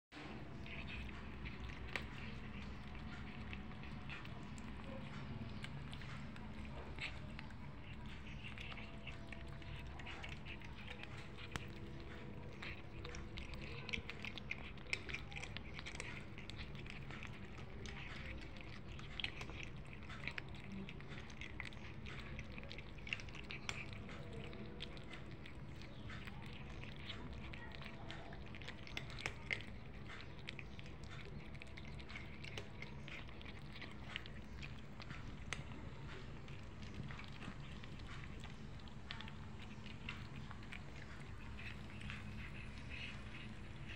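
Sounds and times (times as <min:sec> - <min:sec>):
cats chewing wet food: 0:00.1 - 0:43.9
low background hum: 0:00.1 - 0:43.9.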